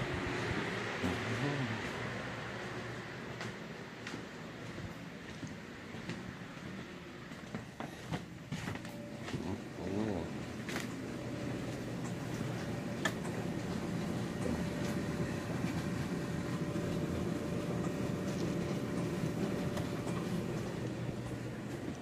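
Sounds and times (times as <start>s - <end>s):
washing machine rumbling: 0.0s - 22.0s.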